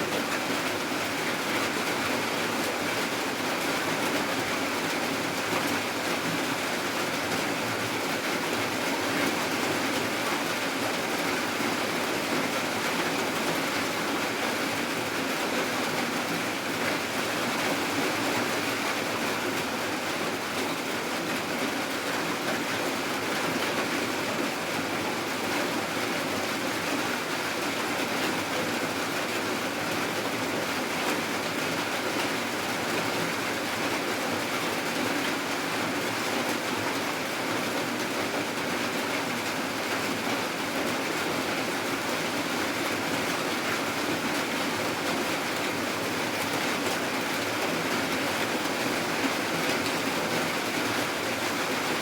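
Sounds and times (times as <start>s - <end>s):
rain falling steadily: 0.0s - 52.0s.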